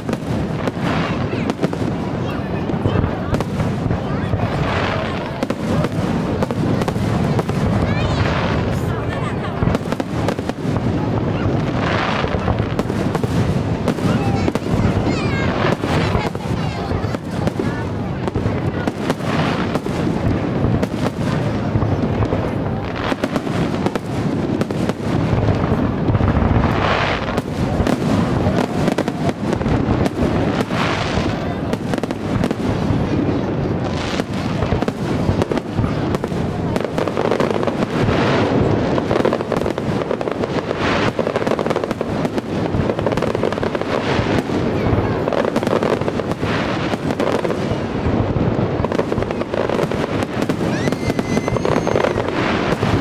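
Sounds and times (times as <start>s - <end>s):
firework crackle: 0.0s - 53.0s.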